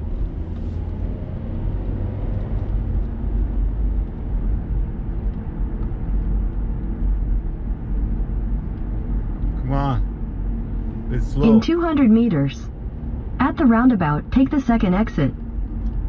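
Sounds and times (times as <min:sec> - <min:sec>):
faint engine hum: 0:00.0 - 0:16.0
road noise inside car: 0:00.0 - 0:16.0.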